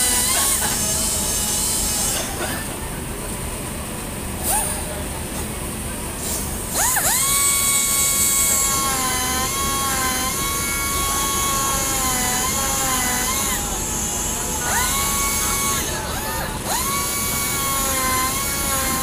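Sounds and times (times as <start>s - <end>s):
pneumatic grinder whine: 0.0s - 2.9s, 6.2s - 19.0s.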